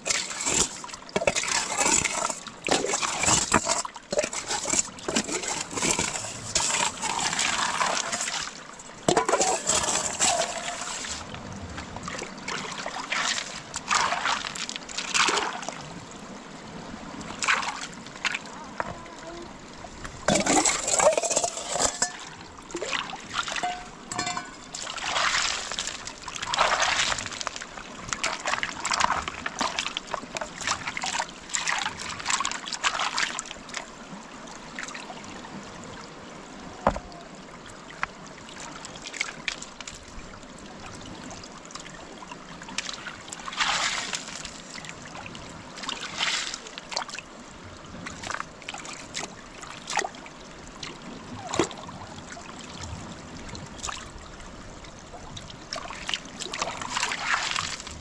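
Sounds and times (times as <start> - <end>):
trickling water: 0.0 - 58.0
water splashing and sloshing: 0.0 - 58.0.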